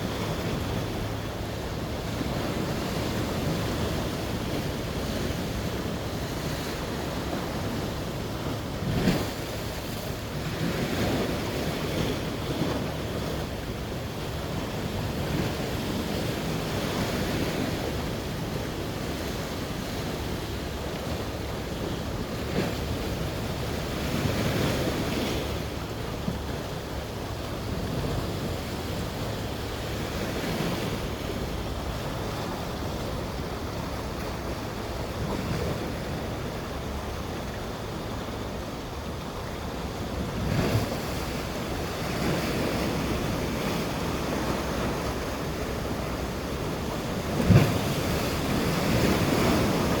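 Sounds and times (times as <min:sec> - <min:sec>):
sea waves breaking on shore: 0:00.0 - 0:50.0.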